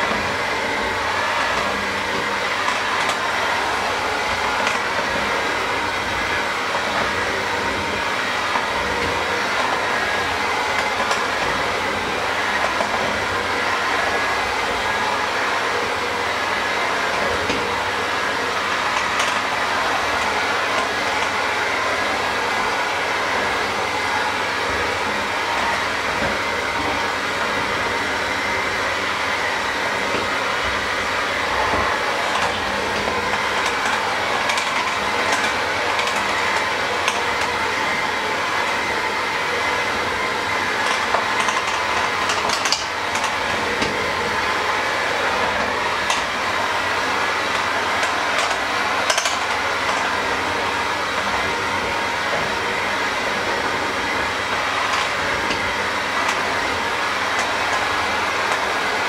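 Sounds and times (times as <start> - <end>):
electric mixer running: 0.0 - 59.0.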